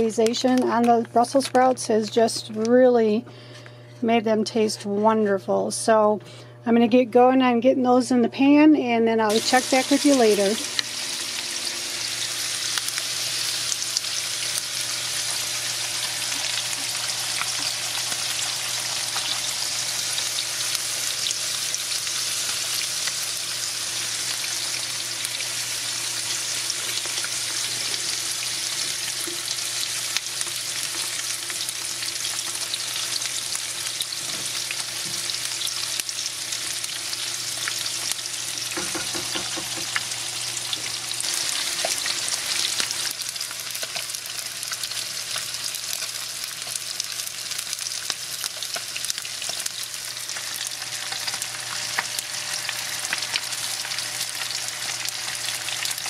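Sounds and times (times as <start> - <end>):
fish and vegetables frying in oil: 9.3 - 56.0.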